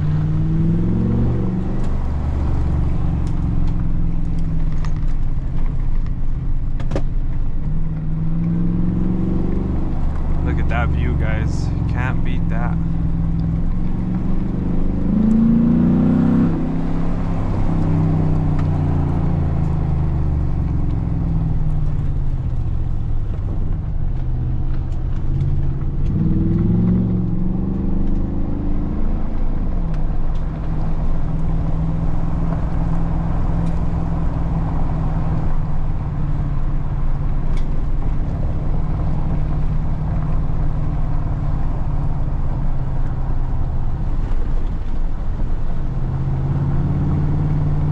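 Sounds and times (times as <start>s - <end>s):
engine and exhaust revving: 0.0s - 47.9s.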